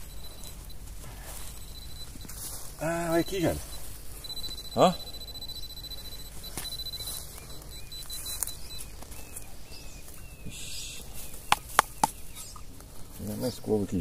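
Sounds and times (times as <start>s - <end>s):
steady high-pitched tone: 0.0s - 12.7s.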